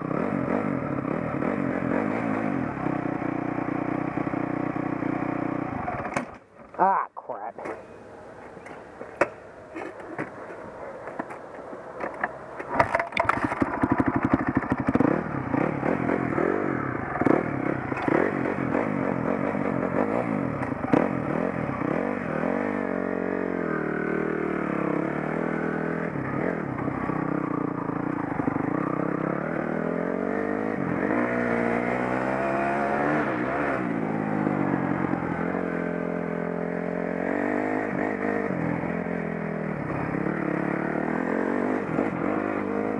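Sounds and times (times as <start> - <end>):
dirt bike engine revving: 0.0 - 6.0, 13.2 - 42.9.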